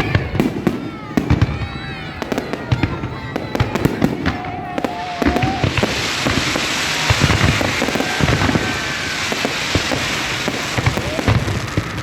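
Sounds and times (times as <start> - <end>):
fireworks crackling: 0.0 - 12.0
deep booms of bursting shells: 0.1 - 12.0.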